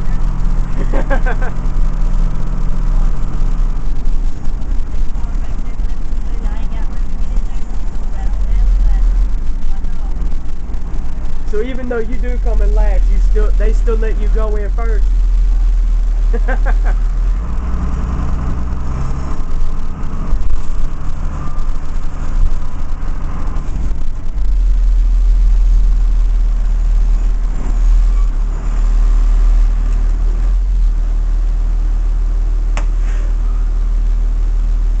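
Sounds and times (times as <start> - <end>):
diesel bus engine rumbling: 0.0 - 35.0.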